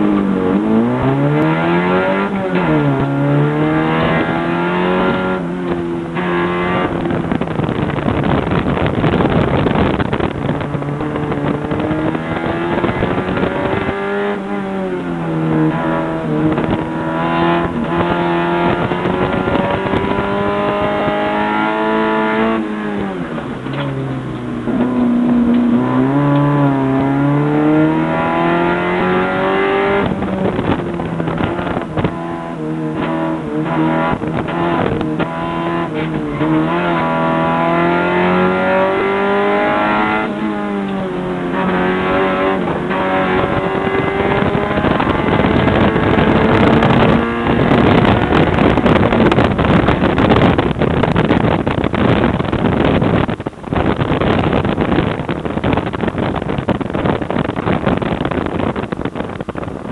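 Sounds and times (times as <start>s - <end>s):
car engine revving: 0.0s - 59.9s
tire noise: 0.0s - 59.9s.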